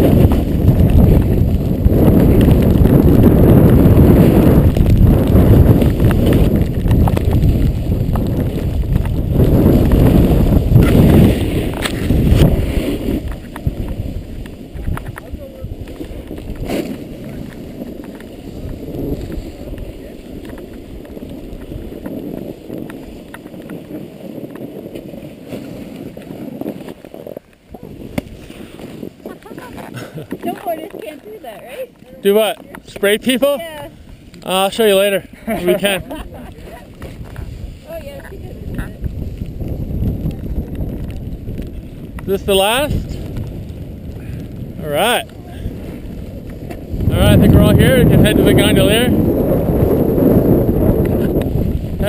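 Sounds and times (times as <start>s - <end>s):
skis carving through snow: 0.0s - 52.0s
wind buffeting microphone: 0.0s - 52.0s.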